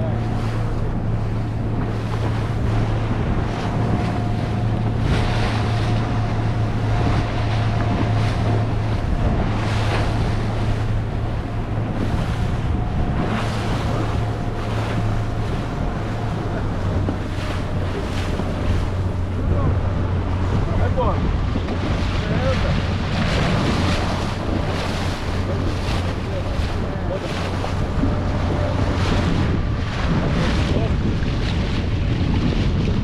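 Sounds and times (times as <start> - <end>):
motorboat engine droning: 0.0 - 33.0
water rushing: 0.0 - 33.0
wind buffeting microphone: 0.0 - 33.0.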